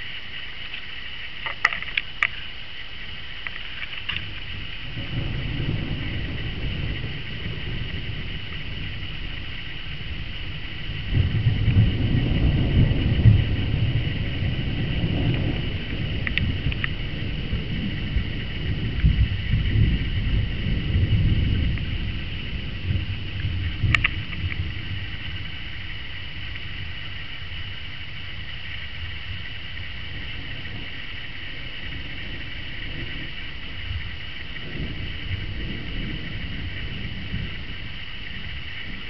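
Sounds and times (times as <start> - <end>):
rolling thunder: 4.2 - 39.0.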